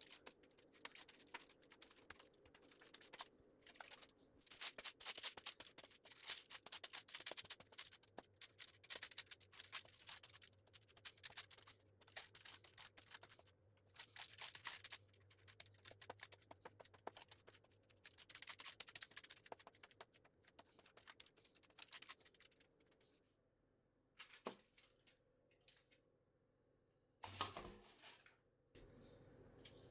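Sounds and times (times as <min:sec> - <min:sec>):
faint kitchen clicking and scratching: 0:00.0 - 0:26.5, 0:27.2 - 0:29.9.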